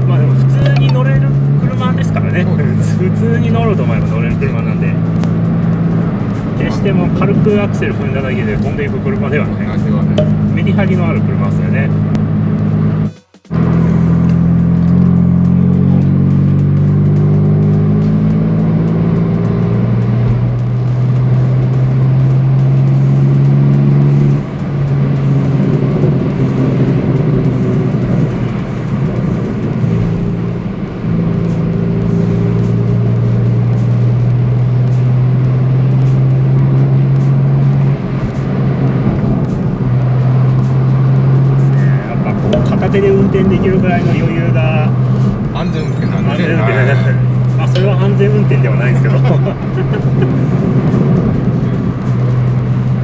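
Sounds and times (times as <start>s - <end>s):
car engine from inside cabin: 0.0s - 53.0s.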